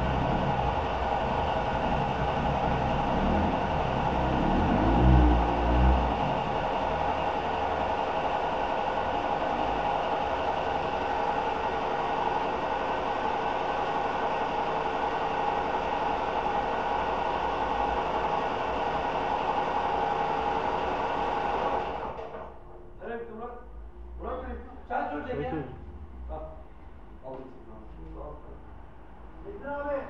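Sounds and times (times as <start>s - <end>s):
machine droning: 0.0s - 30.0s.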